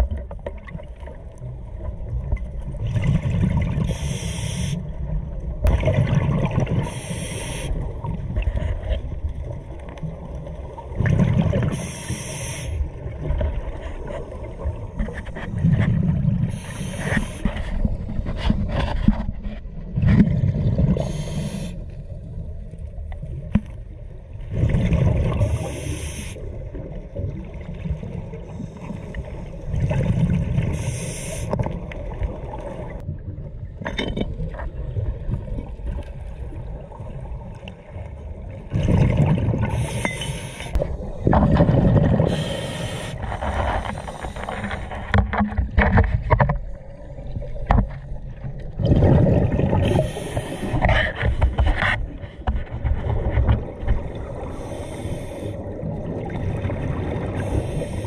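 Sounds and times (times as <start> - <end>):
exhaled bubbles rushing underwater: 0.0 - 18.3, 19.7 - 51.0, 52.8 - 58.0
underwater gurgling and rumbling: 0.0 - 58.0.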